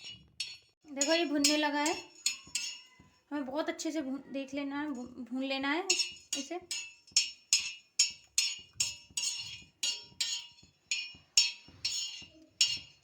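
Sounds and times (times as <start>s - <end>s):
metal spoon scraping a pan: 0.0s - 3.5s, 4.8s - 13.0s.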